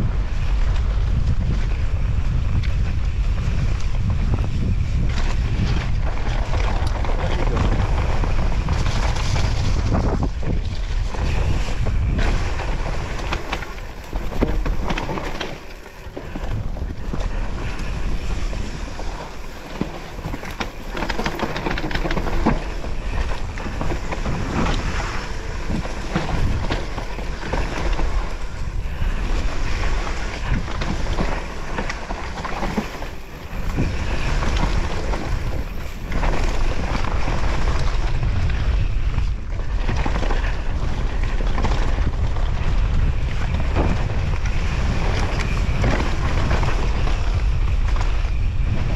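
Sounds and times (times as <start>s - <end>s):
mountain bike rattles and knocks: 0.0s - 48.9s
wind rumble on microphone: 0.0s - 48.9s.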